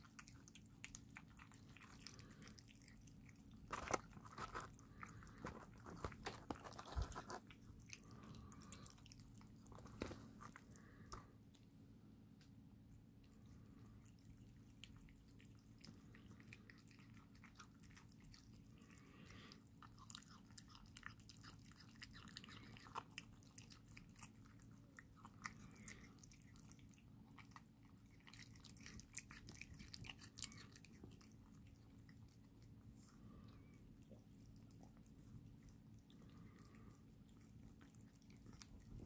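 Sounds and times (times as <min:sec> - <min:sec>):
kittens chewing and licking: 0:00.0 - 0:39.0.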